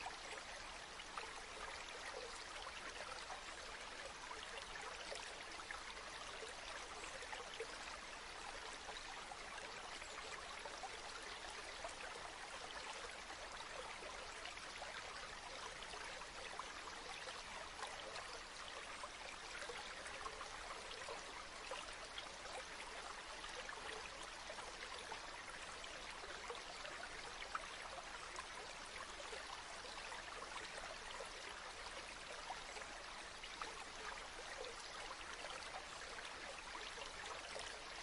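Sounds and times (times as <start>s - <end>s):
stream flowing and trickling: 0.0s - 38.0s.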